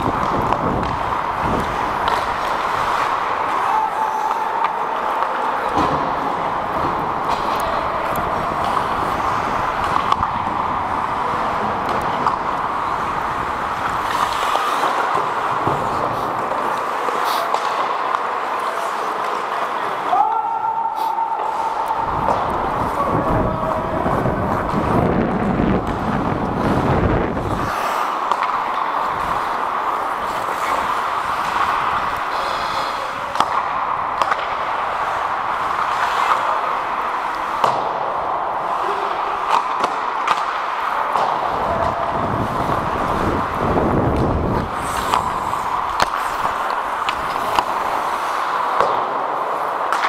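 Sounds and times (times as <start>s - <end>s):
skate blades scraping ice: 0.0s - 20.1s, 21.0s - 50.0s
hockey sticks and puck clacking: 0.0s - 50.0s.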